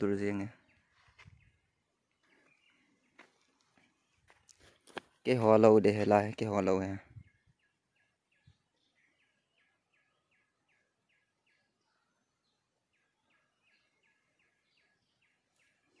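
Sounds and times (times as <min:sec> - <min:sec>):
faint high bird chirp: 0:00.0 - 0:04.6, 0:06.8 - 0:16.0.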